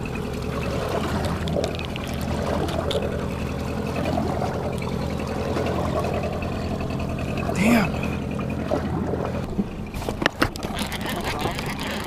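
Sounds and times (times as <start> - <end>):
boat motor running: 0.0 - 12.0
water splashing against hull: 0.0 - 12.0.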